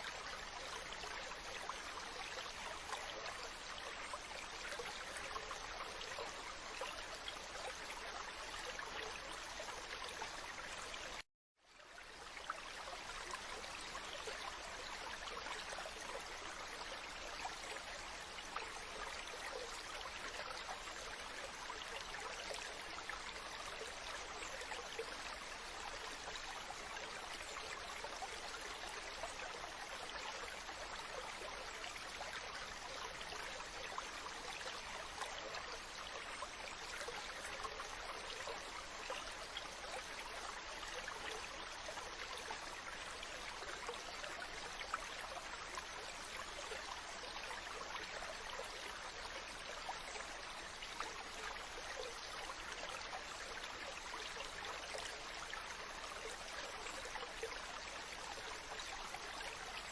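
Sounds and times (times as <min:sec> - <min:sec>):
rushing water: 0:11.8 - 0:59.9.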